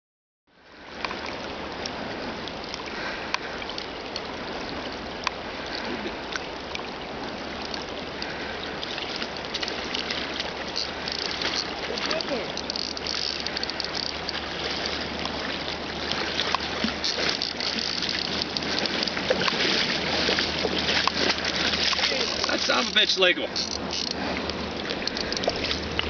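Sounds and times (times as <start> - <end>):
river flowing: 0.5 - 26.0.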